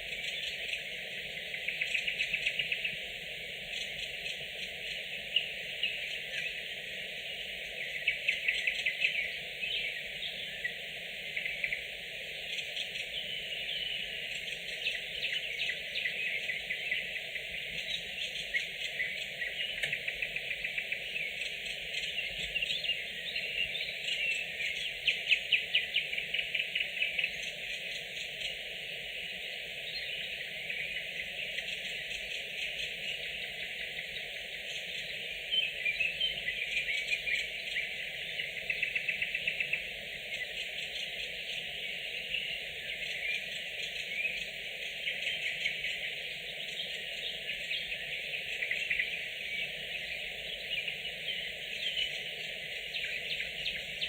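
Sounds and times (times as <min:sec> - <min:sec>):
dense chorus of birdsong: 0:00.0 - 0:54.0
nightingale singing: 0:00.0 - 0:54.0.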